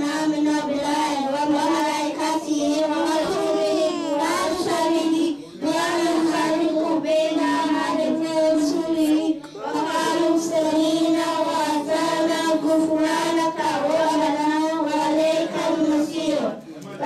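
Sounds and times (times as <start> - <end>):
girls singing together: 0.0 - 16.6.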